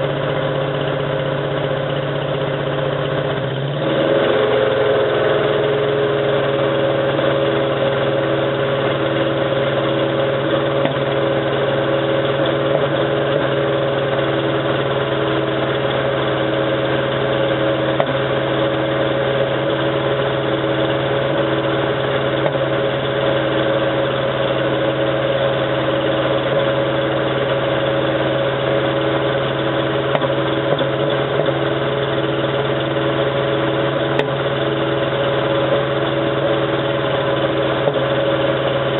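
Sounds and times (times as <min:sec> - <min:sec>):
engine idling roughly with misfire: 0:00.0 - 0:38.9.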